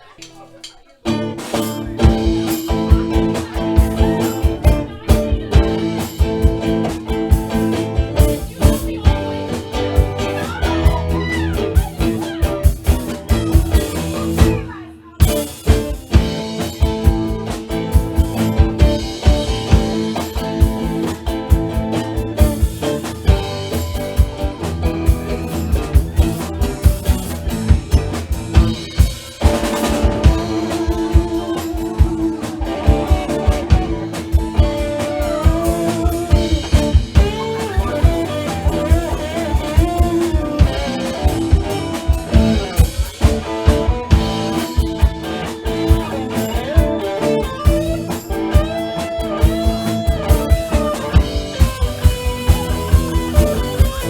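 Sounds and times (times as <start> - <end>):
bending guitar melody: 0.0 - 54.0
drum beat: 0.0 - 54.0
guitar chords: 1.0 - 54.0.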